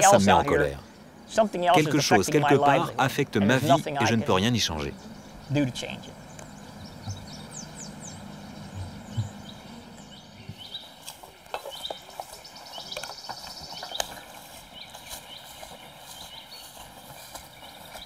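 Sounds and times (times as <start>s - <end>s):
faint low bee hum: 0.0s - 18.0s
small birds chirping: 0.0s - 18.0s.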